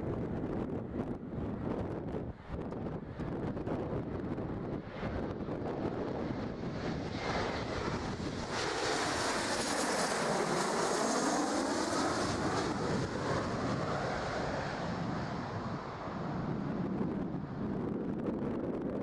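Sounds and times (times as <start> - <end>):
jet aircraft passing overhead: 0.0 - 19.0
wind buffeting microphone: 0.0 - 19.0.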